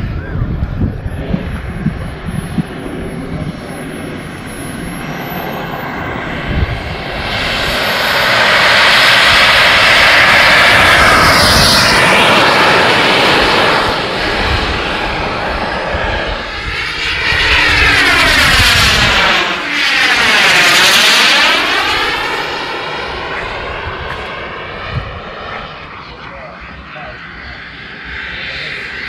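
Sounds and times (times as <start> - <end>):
model airplane engine running: 0.0 - 29.0.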